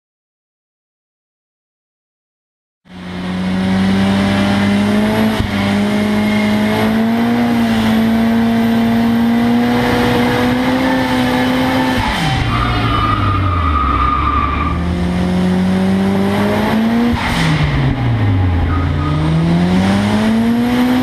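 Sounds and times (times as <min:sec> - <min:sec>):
turbocharged car engine at high revs: 0:02.9 - 0:21.0.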